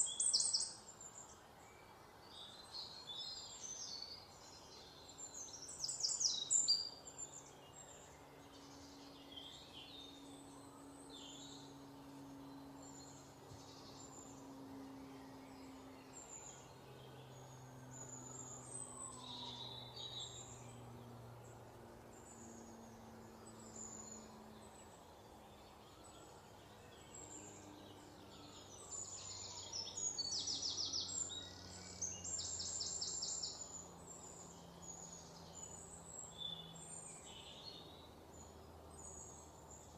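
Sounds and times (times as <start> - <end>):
faint low hum: 0.0 - 39.9
small birds chirping: 0.0 - 39.9.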